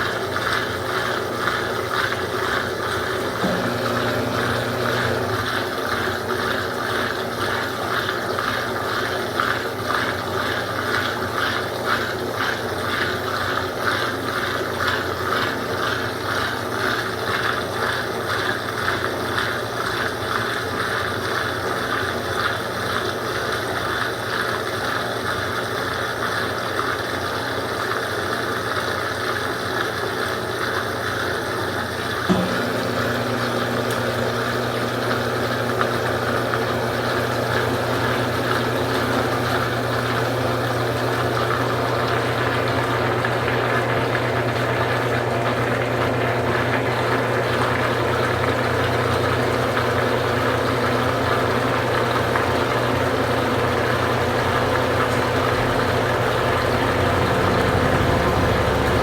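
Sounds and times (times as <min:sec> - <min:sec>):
washing machine whirring and swishing: 0:00.0 - 0:26.6, 0:30.4 - 0:59.0.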